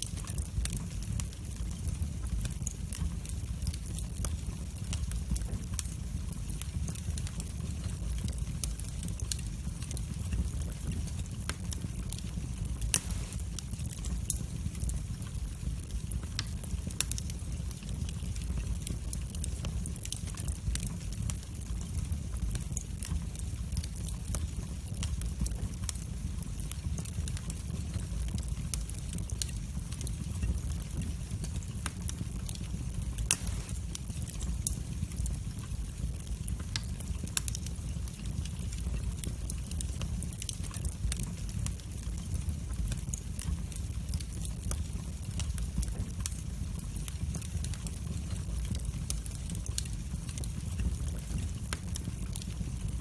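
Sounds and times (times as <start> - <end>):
fire crackling and popping: 0.0 - 53.0
wood fire rumbling: 0.0 - 53.0.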